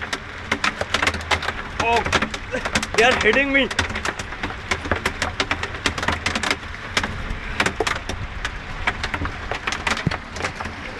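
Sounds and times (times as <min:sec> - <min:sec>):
hailstones striking surfaces: 0:00.0 - 0:10.9.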